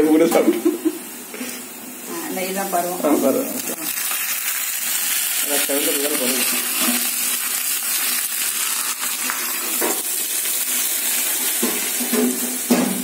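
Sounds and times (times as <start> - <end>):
hot oil sizzling in pan: 0.6 - 13.0.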